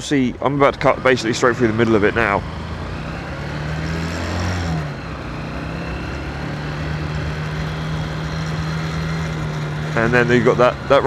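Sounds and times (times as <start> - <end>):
motorcycle engine running: 0.5 - 11.0.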